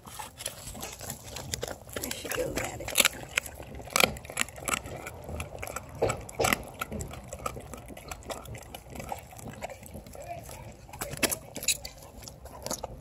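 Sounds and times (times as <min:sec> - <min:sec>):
clicks and crunches from bowl: 0:00.0 - 0:13.0
dog chewing and licking: 0:00.0 - 0:13.0.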